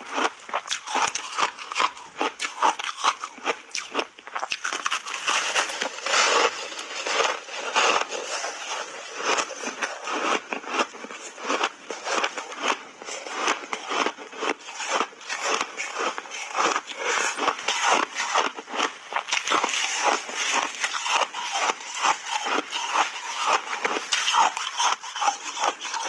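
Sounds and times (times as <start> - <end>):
ice crunching while chewed: 0.0 - 26.0.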